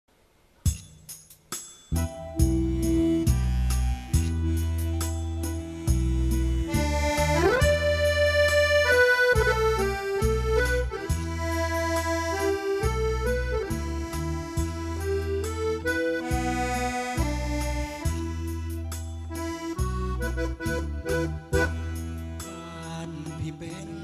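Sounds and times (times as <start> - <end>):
accordion-toned melody: 0.7 - 24.0
deep sustained bass: 2.0 - 22.5.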